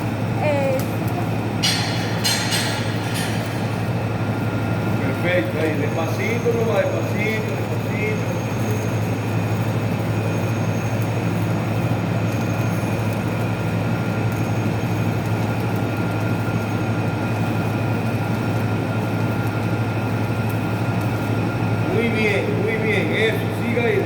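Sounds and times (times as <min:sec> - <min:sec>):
low electrical hum: 0:00.0 - 0:24.0
welding arc crackling: 0:00.0 - 0:24.0.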